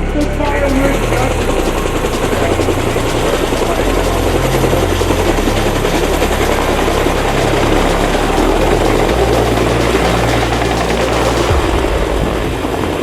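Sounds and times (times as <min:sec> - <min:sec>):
aircraft engine and propeller: 0:00.0 - 0:13.0
low hum: 0:00.0 - 0:13.0.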